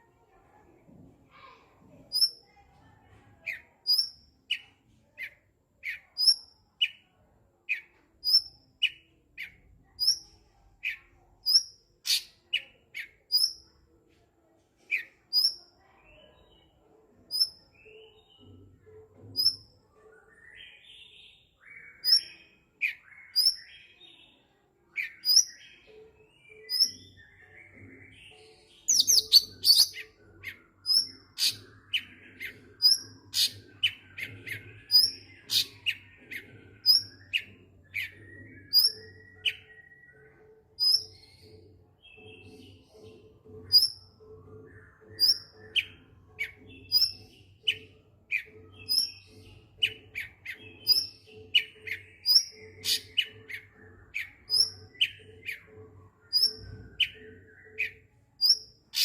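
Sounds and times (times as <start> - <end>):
bird chirping and singing: 1.9 - 2.7, 3.4 - 13.9, 14.9 - 59.0.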